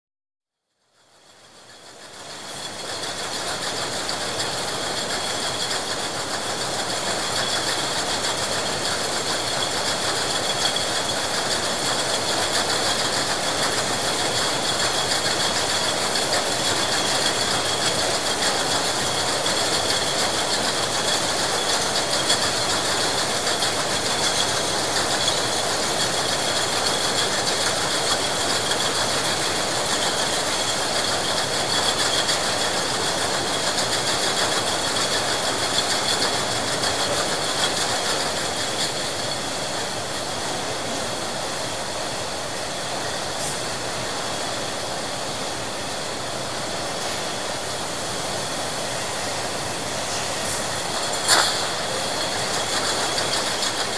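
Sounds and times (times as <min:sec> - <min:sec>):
constant high whine: 0:00.8 - 0:53.9
bottle-filling machinery: 0:02.4 - 0:53.9.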